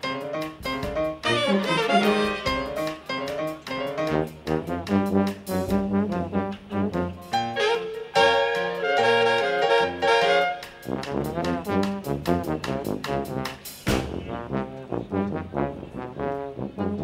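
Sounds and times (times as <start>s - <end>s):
jazz orchestra playing: 0.0s - 17.0s.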